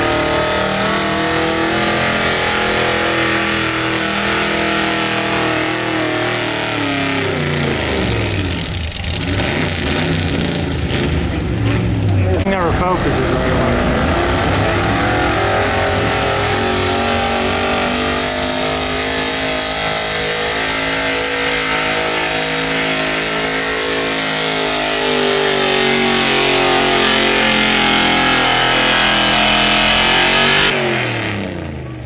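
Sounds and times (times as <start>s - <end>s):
truck engine at high revs: 0.0s - 32.0s.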